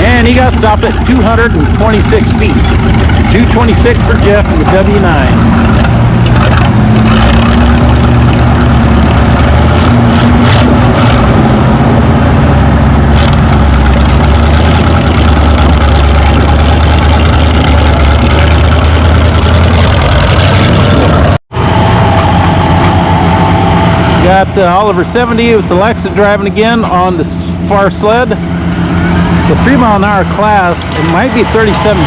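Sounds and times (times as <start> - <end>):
engine with high whine: 0.0 - 32.0
loud engines running: 0.0 - 32.0.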